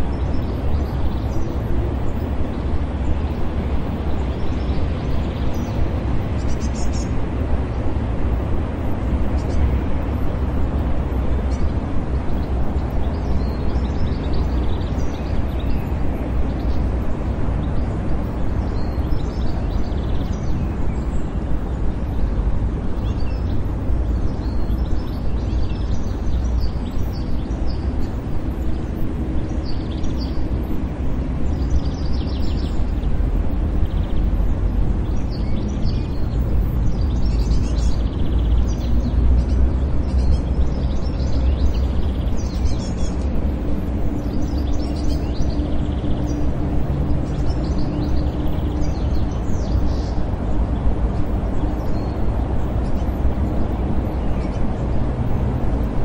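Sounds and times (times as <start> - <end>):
small birds chirping: 0.0 - 56.0
distant traffic rumble: 0.1 - 56.0.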